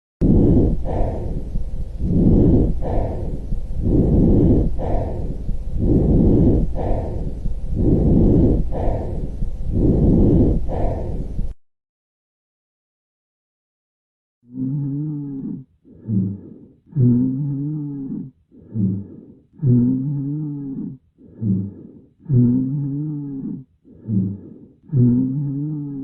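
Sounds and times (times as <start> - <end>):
breathing through chest: 0.2 - 11.6, 15.4 - 26.0.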